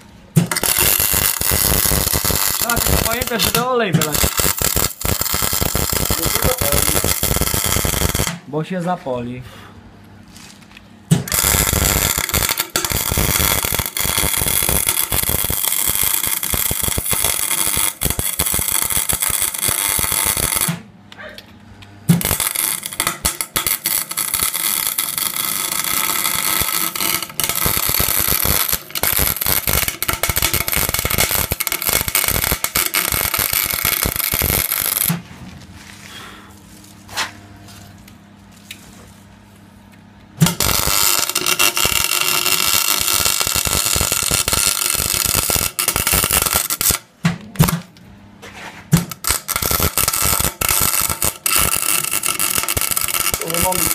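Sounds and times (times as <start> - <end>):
arc welding crackling: 0.3 - 8.6, 10.4 - 20.9, 22.0 - 35.2, 40.4 - 48.0, 48.9 - 53.9.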